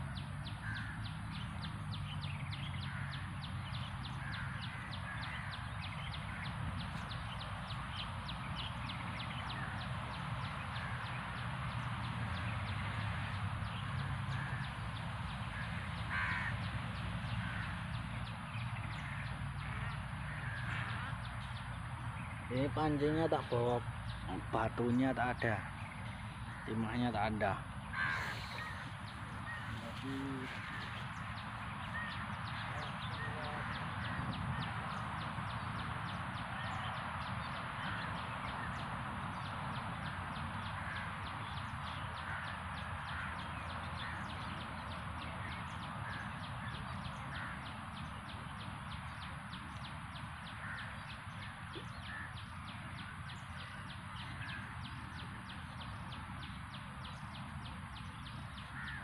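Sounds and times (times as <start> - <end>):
faint bird calls: 0.0 - 59.0
steady outdoor hiss: 0.0 - 59.0.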